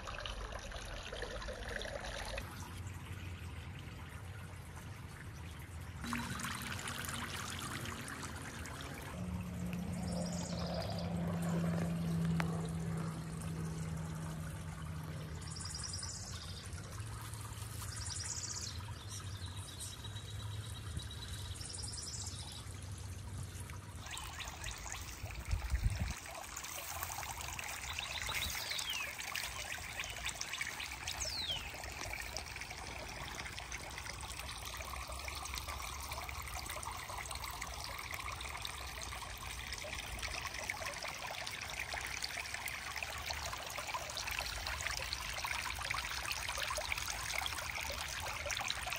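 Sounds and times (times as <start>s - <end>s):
water trickling and splashing: 0.0s - 48.9s.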